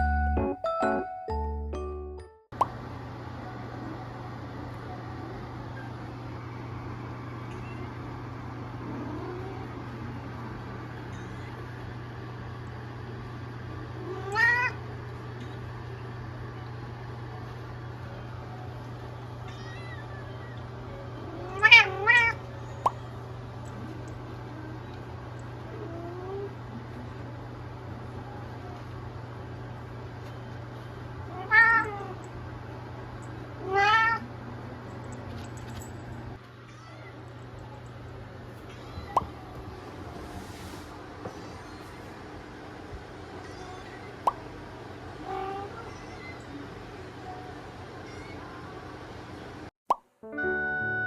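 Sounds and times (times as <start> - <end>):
low background hum: 0.0 - 49.7.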